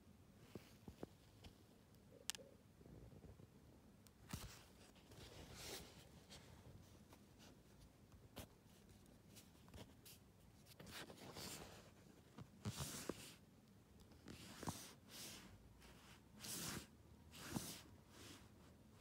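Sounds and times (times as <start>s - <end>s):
soft rustles of handling: 0.3s - 2.4s, 3.1s - 19.0s.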